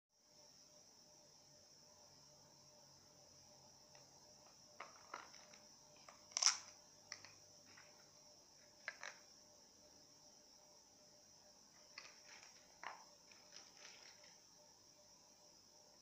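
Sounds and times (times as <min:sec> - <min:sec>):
faint steady hiss: 0:00.2 - 0:16.0.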